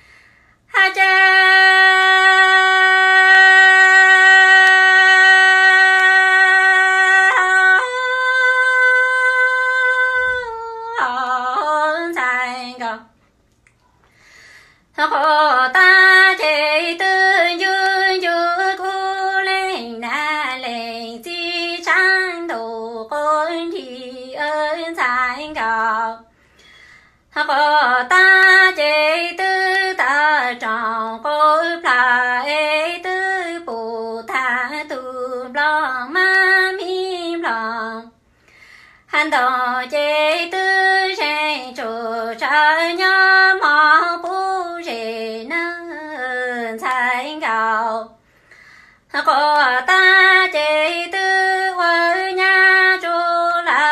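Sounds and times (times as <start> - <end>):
woman singing unaccompanied: 0.7 - 13.2, 14.9 - 26.3, 27.3 - 38.2, 39.0 - 48.2, 49.1 - 53.9.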